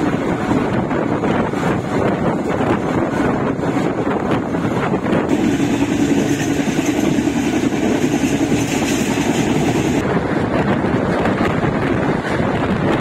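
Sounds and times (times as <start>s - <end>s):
train wheels rumbling on rails: 0.0s - 13.0s
wind rushing past microphone: 0.0s - 13.0s.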